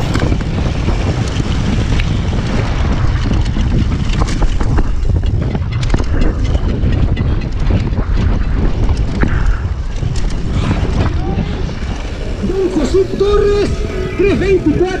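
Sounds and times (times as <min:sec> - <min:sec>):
bike rattles and knocks: 0:00.0 - 0:15.0
tyres rumbling on loose dirt: 0:00.0 - 0:15.0
wind buffeting microphone: 0:00.0 - 0:15.0.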